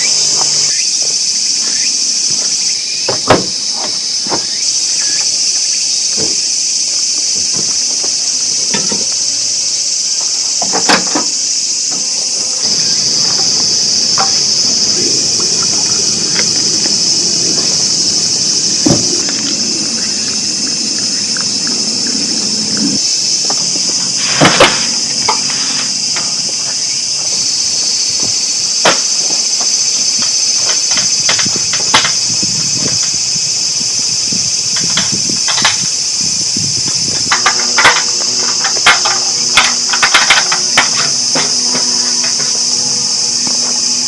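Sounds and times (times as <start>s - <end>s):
insects chorus: 0.0s - 44.0s.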